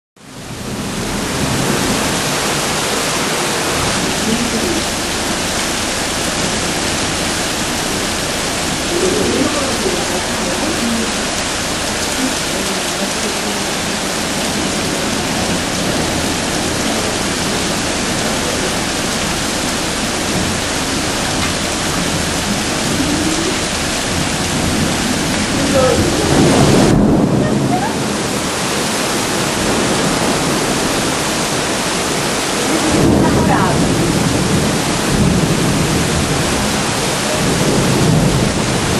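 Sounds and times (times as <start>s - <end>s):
heavy rain: 0.2s - 38.9s.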